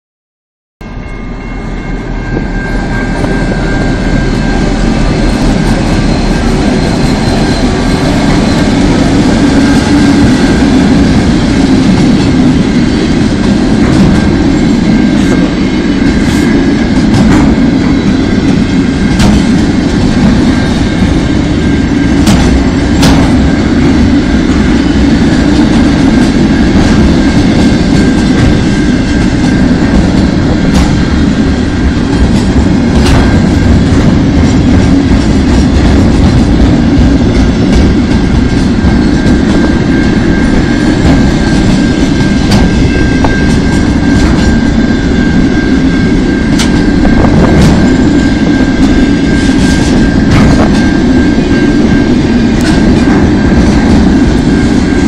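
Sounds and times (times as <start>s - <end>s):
freight train passing: 0.8s - 55.0s
sharp train clanks: 0.8s - 55.0s.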